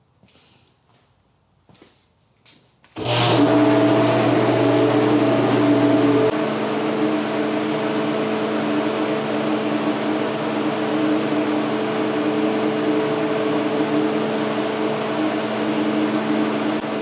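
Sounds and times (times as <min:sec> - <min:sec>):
exhaust fan air rush: 0:03.0 - 0:17.0
fan motor hum: 0:03.0 - 0:17.0.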